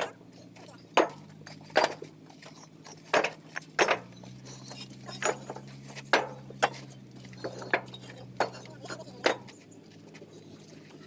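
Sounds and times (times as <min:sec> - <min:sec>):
bricks clinking together: 0:00.0 - 0:09.6
tractor engine humming: 0:00.0 - 0:11.0.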